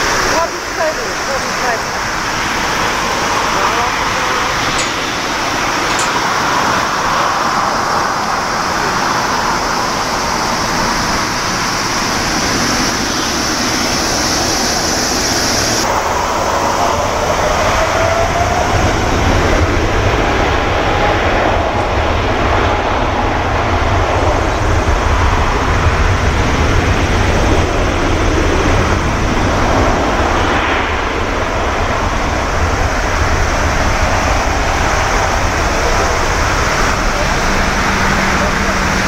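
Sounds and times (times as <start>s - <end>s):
jet engines at high thrust: 0.0s - 39.0s
whining fan tone: 0.0s - 39.0s.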